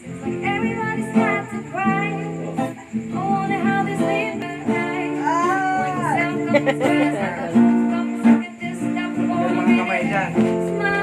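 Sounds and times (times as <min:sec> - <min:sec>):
guitar chords: 0:00.0 - 0:11.0
person singing slow melody: 0:00.0 - 0:11.0.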